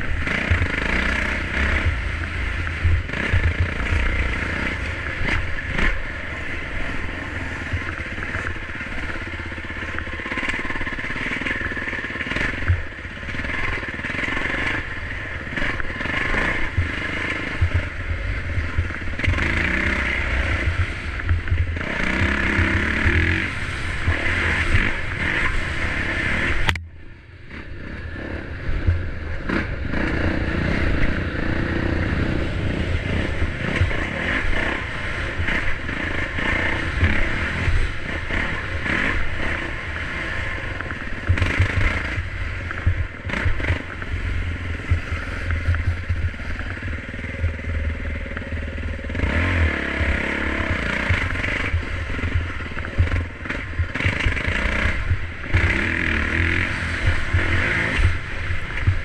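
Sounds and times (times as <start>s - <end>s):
heavy low rumble: 0.0s - 10.2s, 14.8s - 59.0s
dirt bike engine revving: 0.0s - 26.8s, 27.4s - 59.0s.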